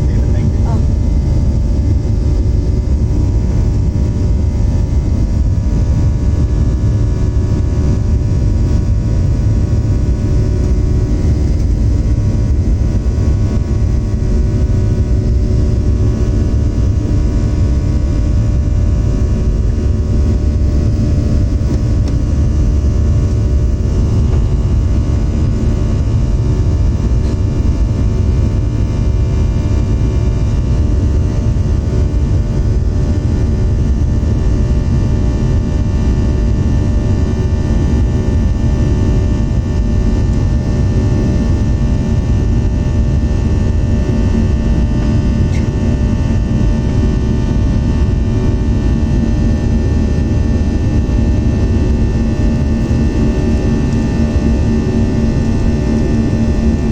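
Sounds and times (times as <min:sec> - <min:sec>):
jet engine drone in cabin: 0:00.0 - 0:56.9.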